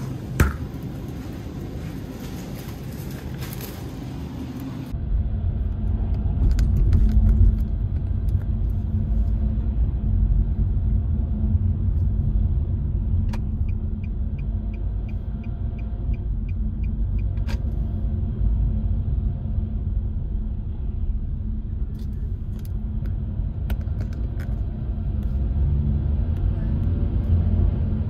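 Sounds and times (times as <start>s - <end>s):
car road noise rumble: 0.0s - 28.0s.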